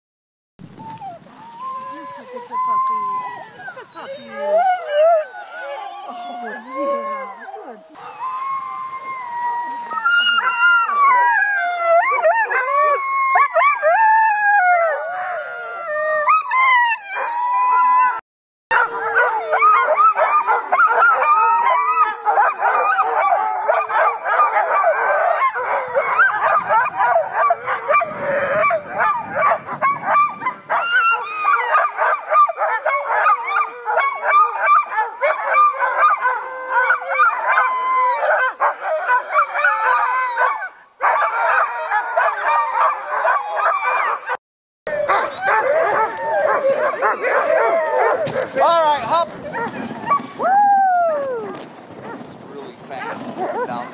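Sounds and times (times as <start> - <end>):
dogs barking and yipping: 0.7 - 53.9
sled dogs howling: 0.7 - 53.9.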